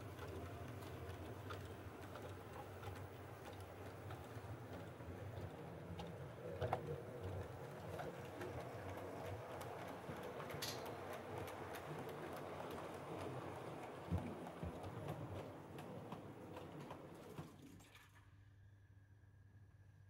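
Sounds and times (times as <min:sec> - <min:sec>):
wheels ticking over rail joints: 0:00.0 - 0:17.5.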